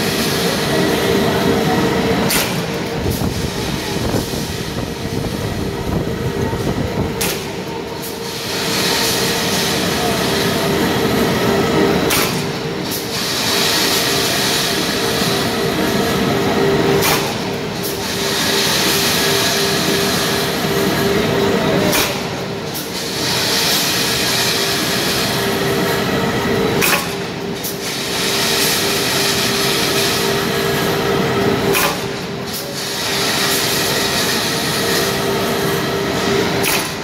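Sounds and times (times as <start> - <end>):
machine hissing: 0.0 - 37.0.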